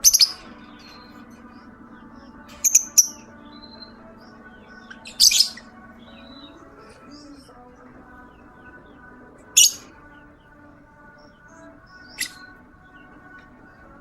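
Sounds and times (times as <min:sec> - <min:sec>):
lovebirds chirping: 0:00.0 - 0:14.0
steady low hum: 0:00.0 - 0:14.0.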